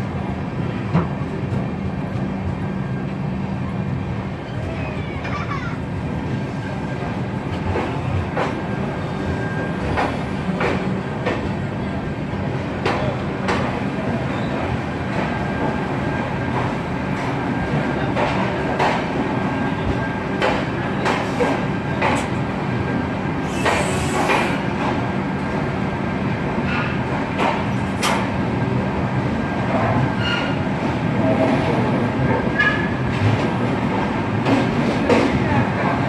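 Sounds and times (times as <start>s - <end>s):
train rumble: 0.0s - 36.0s.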